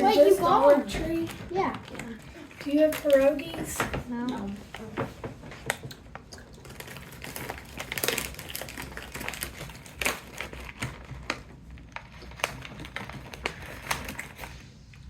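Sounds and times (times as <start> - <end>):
plastic snack bag crinkling: 0.0 - 3.8, 5.7 - 14.6.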